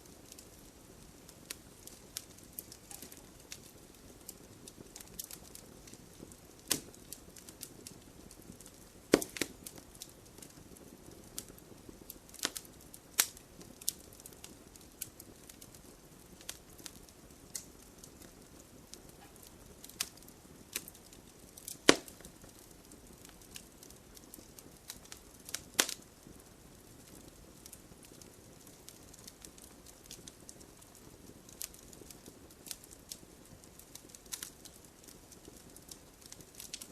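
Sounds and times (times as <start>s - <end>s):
burning wood popping: 0.0s - 36.9s
campfire crackling: 0.0s - 36.9s.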